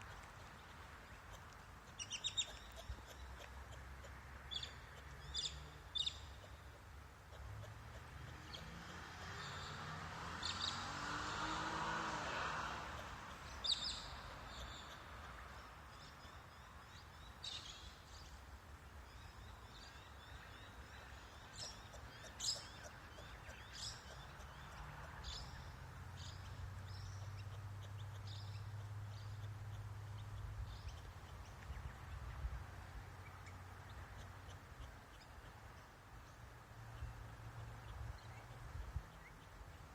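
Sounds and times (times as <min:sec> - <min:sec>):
birds chirping: 0:00.0 - 0:39.9
outdoor background noise: 0:00.0 - 0:39.9.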